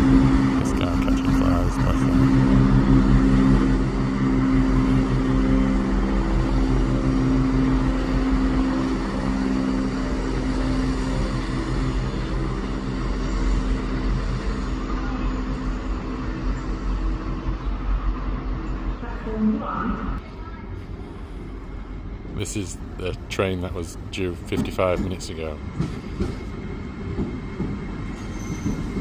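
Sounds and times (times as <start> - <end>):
diesel train engine humming: 0.0 - 29.0.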